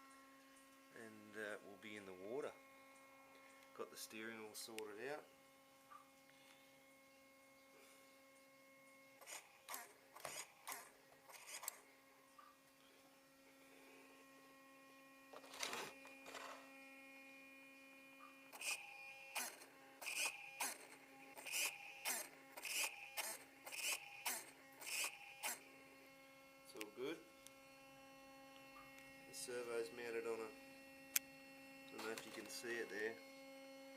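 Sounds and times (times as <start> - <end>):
steady electrical hum: 0.0 - 33.9
steering servo buzzing: 0.0 - 33.9.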